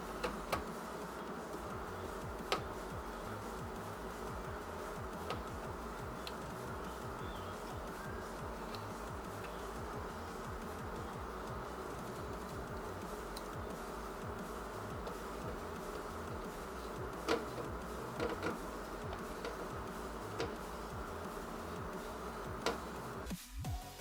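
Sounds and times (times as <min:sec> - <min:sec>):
buzzing hum: 0:00.0 - 0:23.3
screwdriver clicking on screws: 0:00.0 - 0:23.3
background music: 0:00.0 - 0:24.0.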